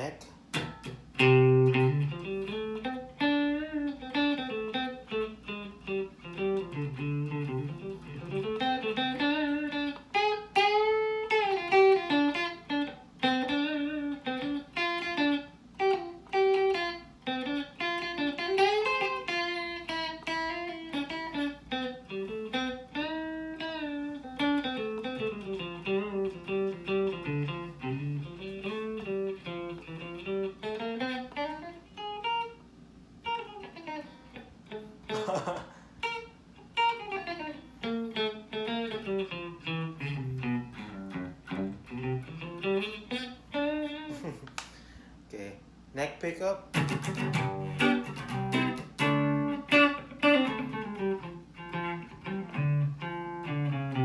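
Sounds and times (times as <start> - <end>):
clean electric guitar with bends: 0.0 - 32.6, 33.2 - 44.5, 46.7 - 54.0.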